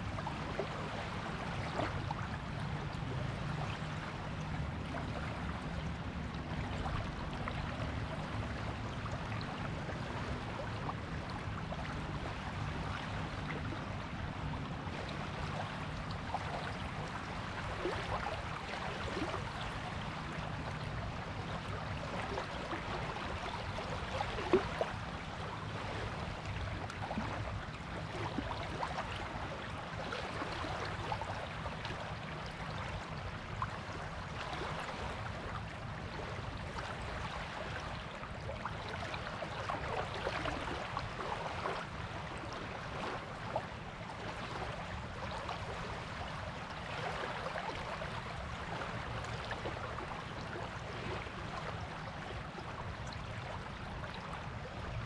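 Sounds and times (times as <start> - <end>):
gentle waves washing on beach: 0.0 - 55.0.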